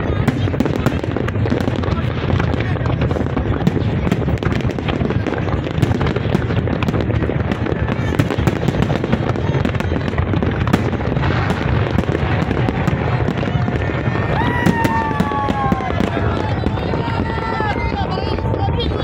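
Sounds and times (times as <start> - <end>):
fireworks bursts and crackling: 0.0 - 19.0.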